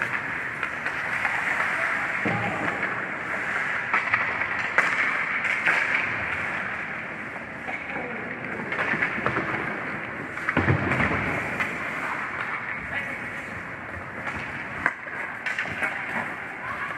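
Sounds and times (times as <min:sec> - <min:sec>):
skates scraping on ice: 0:00.0 - 0:16.9
stick and puck clacks: 0:00.0 - 0:16.9.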